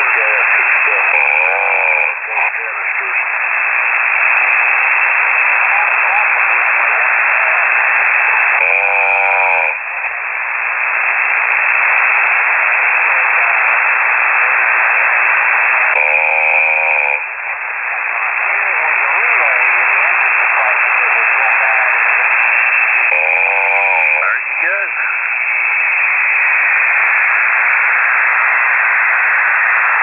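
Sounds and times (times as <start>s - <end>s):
buzzy snores over radio: 0.0s - 30.0s
radio hiss: 0.0s - 30.0s.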